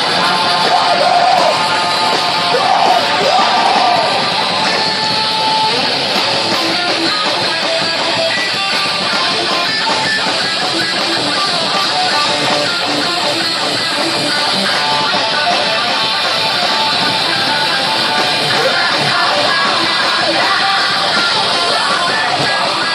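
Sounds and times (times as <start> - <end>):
distorted electric guitar riffs: 0.0 - 22.9.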